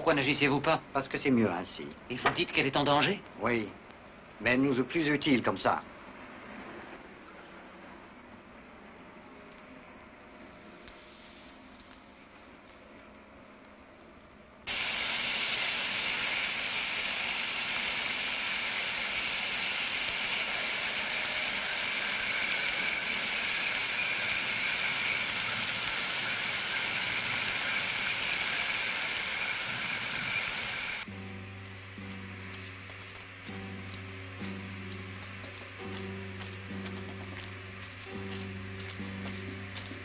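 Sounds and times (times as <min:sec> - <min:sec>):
loud steady hissing noise: 0:00.0 - 0:40.0.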